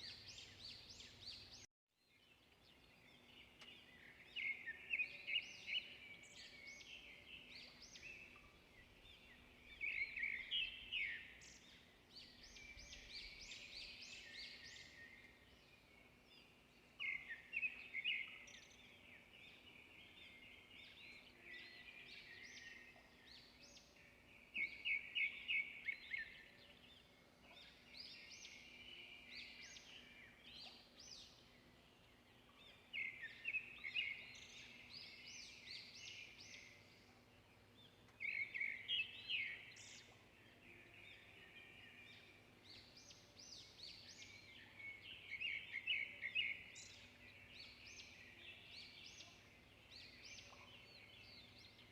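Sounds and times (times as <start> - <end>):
birds chirping in trills: 2.8 - 51.9.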